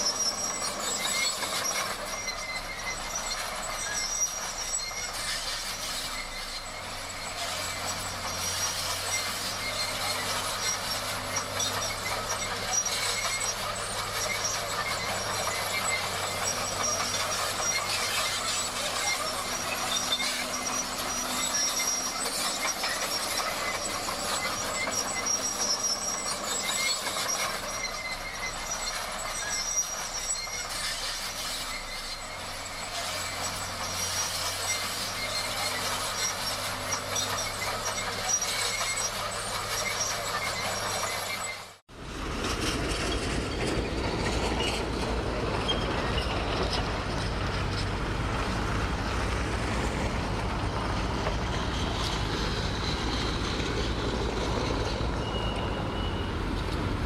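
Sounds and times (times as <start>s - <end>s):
diesel engine running: 0.0s - 57.0s
steel tracks clattering and squealing: 0.0s - 57.0s.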